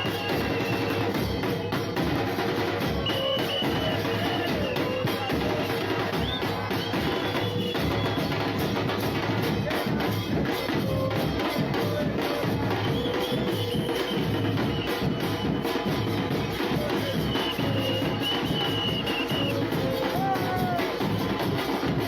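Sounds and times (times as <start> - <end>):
music with steady drumming: 0.0 - 22.0.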